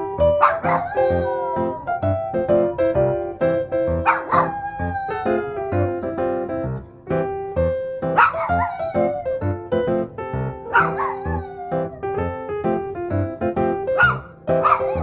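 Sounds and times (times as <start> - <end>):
puppy howling: 0.0 - 7.0, 8.1 - 12.5, 14.0 - 15.0
piano music: 0.0 - 15.0.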